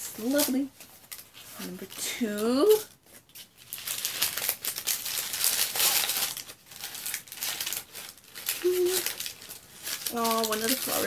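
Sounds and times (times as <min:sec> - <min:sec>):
paper wrapping crinkling: 0:00.0 - 0:11.0.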